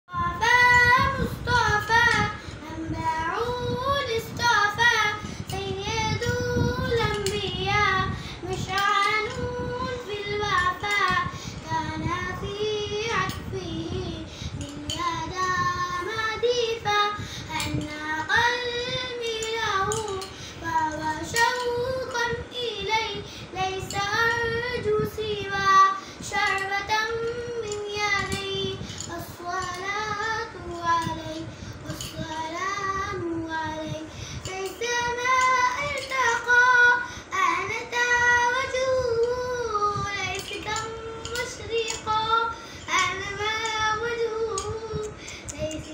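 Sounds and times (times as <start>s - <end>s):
girl singing unaccompanied hymn: 0.1s - 45.9s.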